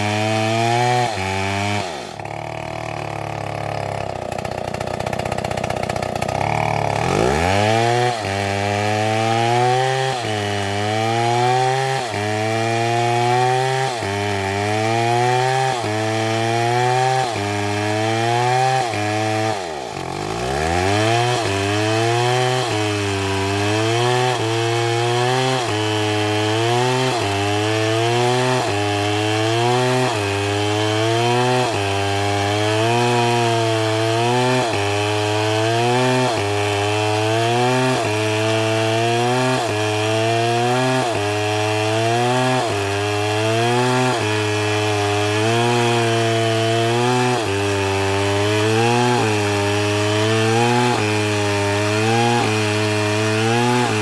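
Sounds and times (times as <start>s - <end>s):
chainsaw cutting log at full throttle: 0.0s - 54.0s.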